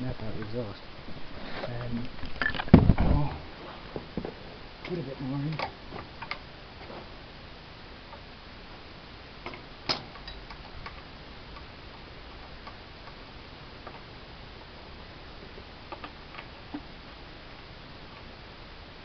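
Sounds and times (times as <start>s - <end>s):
quiet steady hiss: 0.0s - 19.0s.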